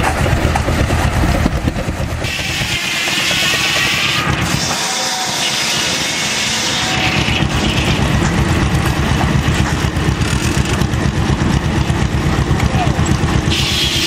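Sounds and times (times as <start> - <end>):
sawmill engine running under load: 0.0 - 14.0.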